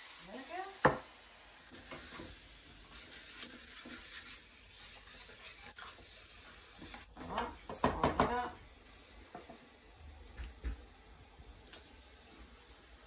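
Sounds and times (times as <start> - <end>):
onions sizzling in a frying pan: 0.0 - 13.0.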